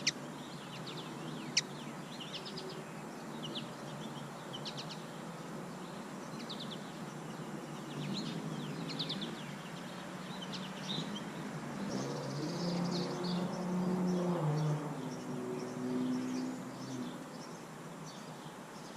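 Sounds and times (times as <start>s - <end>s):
outdoor background noise: 0.0s - 18.9s
small birds chirping: 0.0s - 18.9s.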